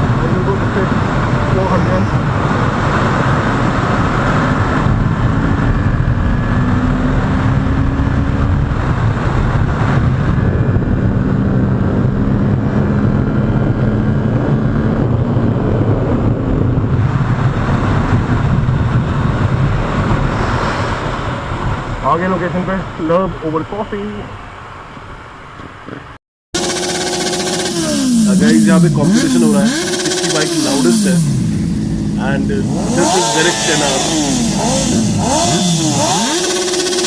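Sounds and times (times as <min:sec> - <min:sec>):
motorcycle engine running: 0:00.0 - 0:20.3, 0:26.6 - 0:37.0
wind rushing over microphone: 0:00.0 - 0:26.2, 0:30.5 - 0:36.3.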